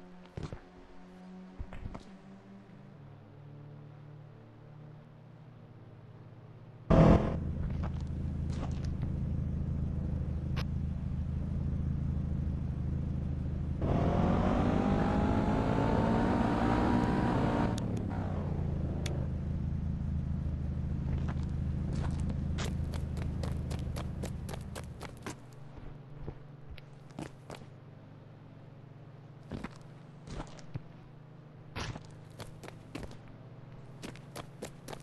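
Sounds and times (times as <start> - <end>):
vehicle engine running: 6.9 - 35.0.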